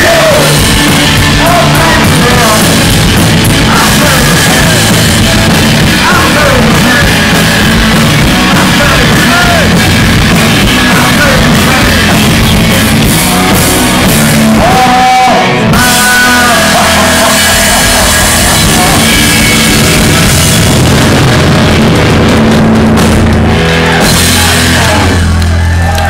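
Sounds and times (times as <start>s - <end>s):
bass guitar: 0.0s - 26.0s
distorted electric guitars: 0.0s - 26.0s
drum kit: 0.0s - 26.0s.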